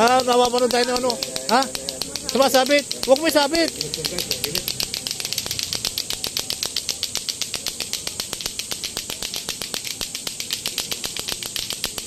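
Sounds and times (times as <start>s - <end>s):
clacker toy balls clacking: 0.0s - 12.0s.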